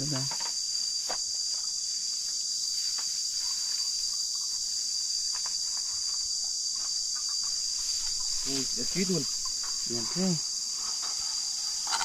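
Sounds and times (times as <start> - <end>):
faint ticks and rustles: 0.0 - 12.0
insect chorus drone: 0.0 - 12.0.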